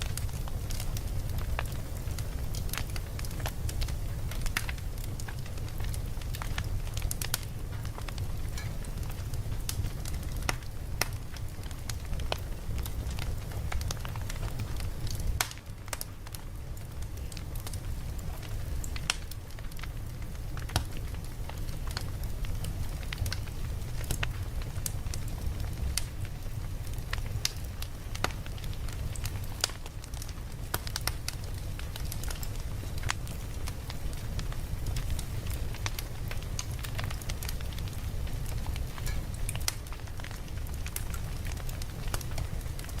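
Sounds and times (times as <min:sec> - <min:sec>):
burning wood crackling and popping: 0:00.0 - 0:43.0
campfire low rumble: 0:00.0 - 0:43.0.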